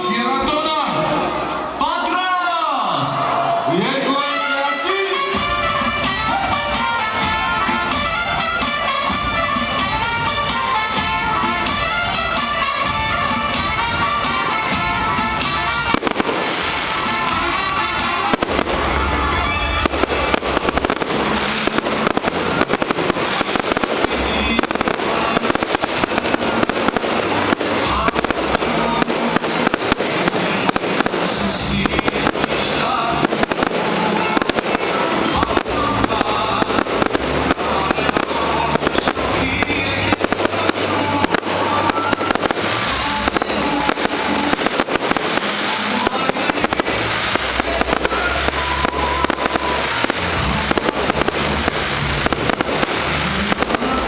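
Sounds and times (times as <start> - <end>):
fireworks bangs: 0.0 - 54.0
music playing: 0.0 - 54.0.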